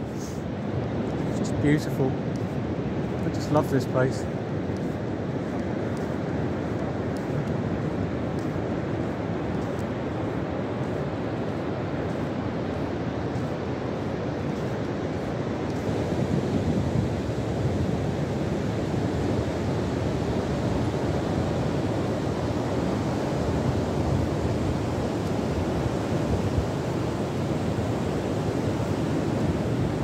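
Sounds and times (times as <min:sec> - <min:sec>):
ocean surf breaking on beach: 0:00.0 - 0:30.0
wind noise on microphone: 0:04.7 - 0:30.0.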